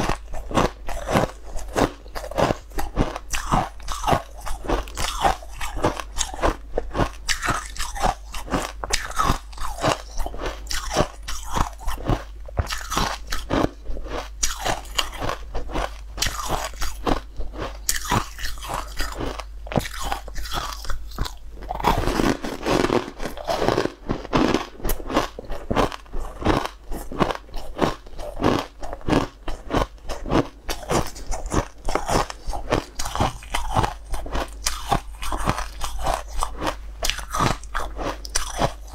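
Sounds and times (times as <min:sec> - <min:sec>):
crunching and chewing ice balls: 0:00.0 - 0:38.9.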